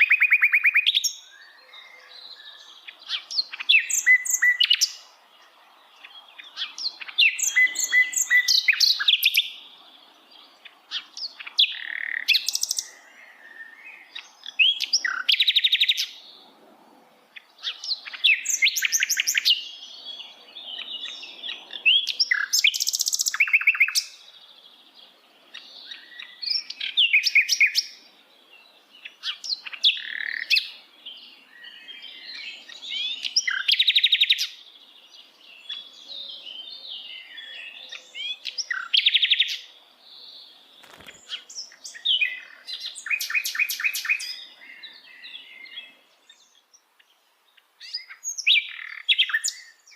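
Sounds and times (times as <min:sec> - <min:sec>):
flycatcher singing: 0:00.0 - 0:16.4, 0:17.3 - 0:49.9.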